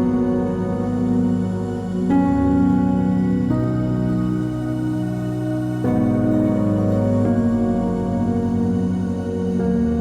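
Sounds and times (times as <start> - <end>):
slow synth chords: 0.0 - 10.0.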